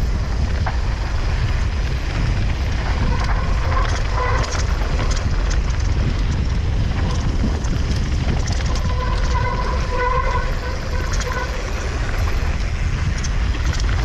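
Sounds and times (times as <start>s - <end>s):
bike clicks and rattles: 0.0s - 14.0s
wind on microphone: 0.0s - 14.0s.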